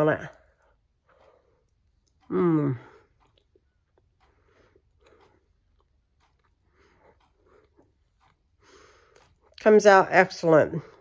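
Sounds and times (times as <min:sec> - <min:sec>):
faint chewing of bread: 0:00.3 - 0:09.7, 0:10.8 - 0:11.0.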